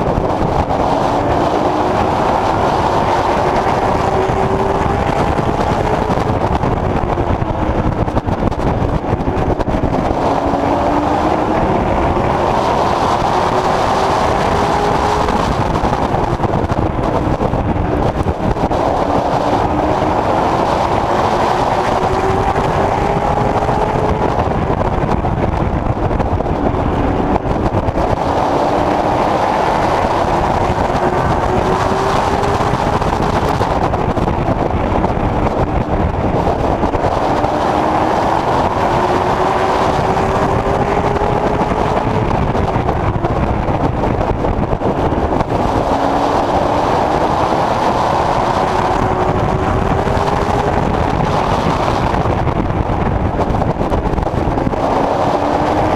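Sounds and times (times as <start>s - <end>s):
race car engine at speed: 0.0s - 55.9s
wind and road noise: 0.0s - 55.9s.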